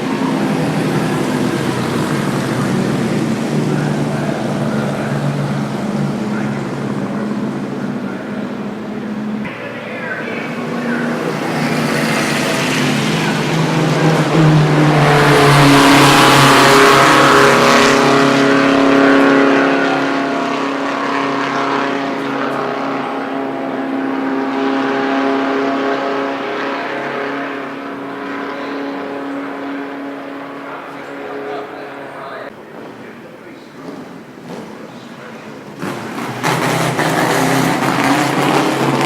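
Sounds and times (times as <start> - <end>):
race car engine passing: 0.0 - 39.0.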